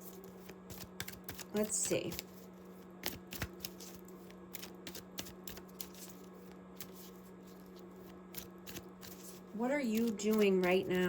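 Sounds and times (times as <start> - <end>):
cards being shuffled: 0.0 - 10.9.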